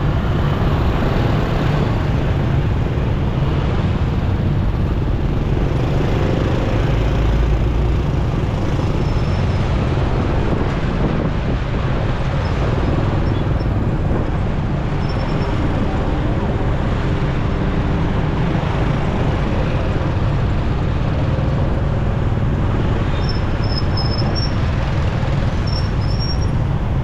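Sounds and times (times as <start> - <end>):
motorcycle engine and road noise: 0.0 - 27.0
wind rumble on microphone: 0.0 - 27.0.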